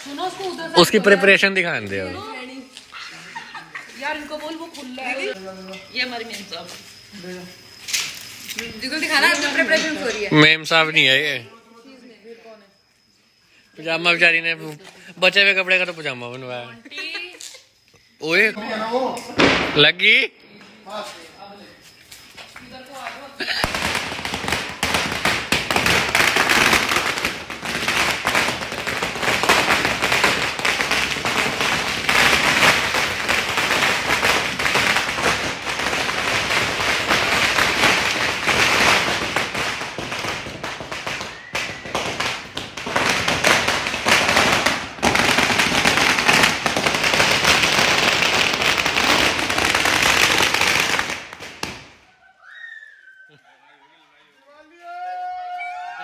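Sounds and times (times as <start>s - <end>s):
firecrackers going off: 0.0s - 11.5s, 12.8s - 20.2s, 20.9s - 52.8s.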